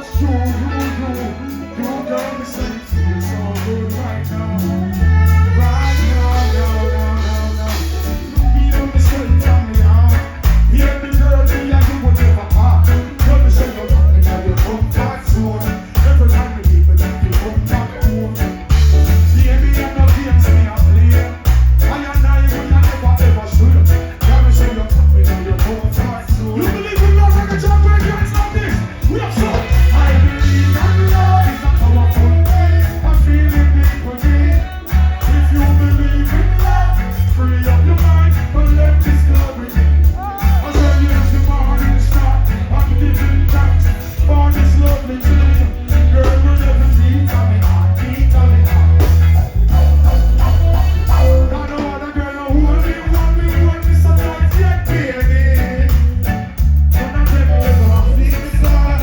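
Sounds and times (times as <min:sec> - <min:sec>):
heavy bass line: 0:00.0 - 0:59.0
live reggae band: 0:00.0 - 0:59.0
person singing: 0:00.0 - 0:59.0.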